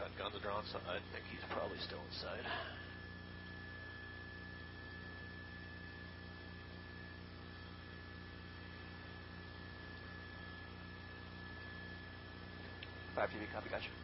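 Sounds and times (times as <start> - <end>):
electrical hum and hiss: 0.0 - 14.0
faint high whine: 0.0 - 14.0.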